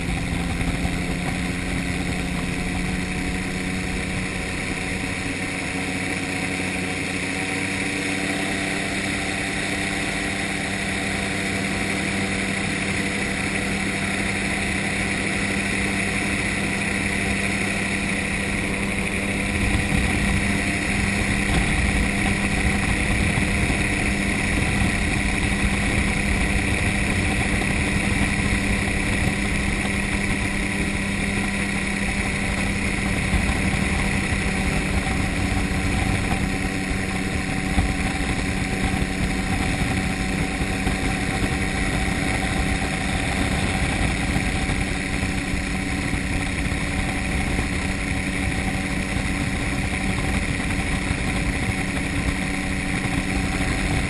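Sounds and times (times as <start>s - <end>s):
gyrocopter engine and propeller: 0.0s - 54.0s
wind rumble on microphone: 0.0s - 54.0s.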